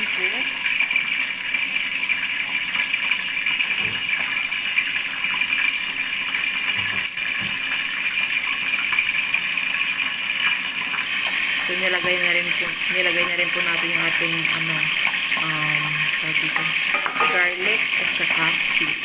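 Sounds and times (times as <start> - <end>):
oil sizzling in frying pan: 0.0 - 19.0.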